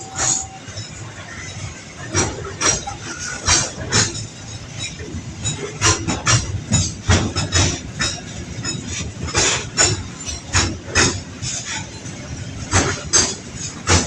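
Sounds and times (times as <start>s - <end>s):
train rumble: 0.0s - 14.0s
train wheels clacking over rail joints: 0.0s - 14.0s.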